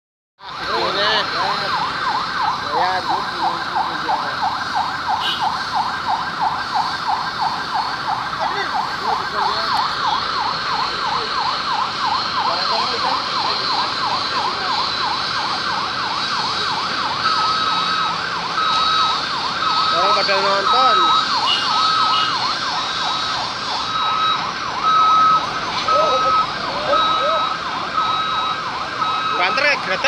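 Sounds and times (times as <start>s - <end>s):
siren yelping: 0.4s - 30.0s
steady siren tone: 0.4s - 30.0s.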